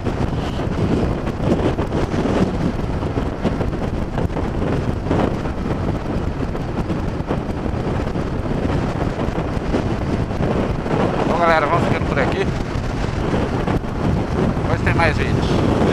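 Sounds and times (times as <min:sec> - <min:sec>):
motorcycle engine: 0:00.0 - 0:14.7
road noise: 0:00.0 - 0:15.9
wind buffeting microphone: 0:00.0 - 0:15.9.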